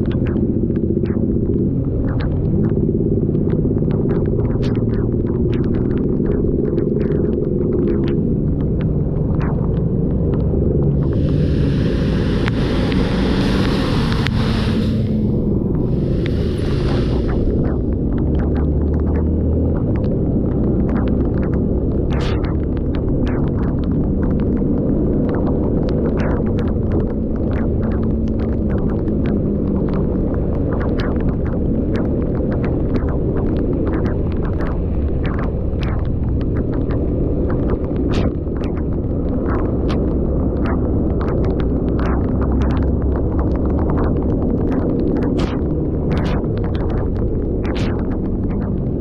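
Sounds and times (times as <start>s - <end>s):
steady low rumble: 0.0s - 49.0s.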